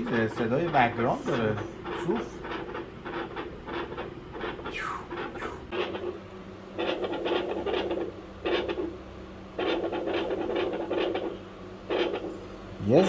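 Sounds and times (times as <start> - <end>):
rasping chest sounds through stethoscope: 0.0 - 12.4.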